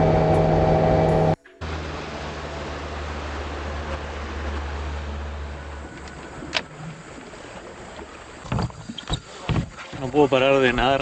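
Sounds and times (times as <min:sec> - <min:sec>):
boat motor humming: 0:00.0 - 0:09.8.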